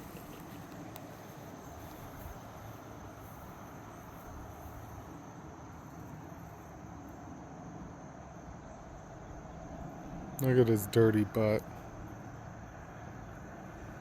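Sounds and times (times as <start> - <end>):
high-pitched insect trill: 0.0 - 14.0.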